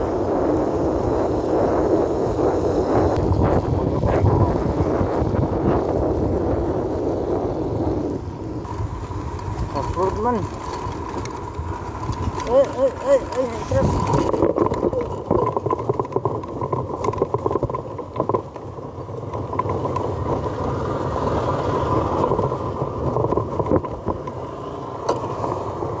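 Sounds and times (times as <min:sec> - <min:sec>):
motor scooter engine rumble: 0:00.0 - 0:26.0
wind: 0:00.0 - 0:26.0.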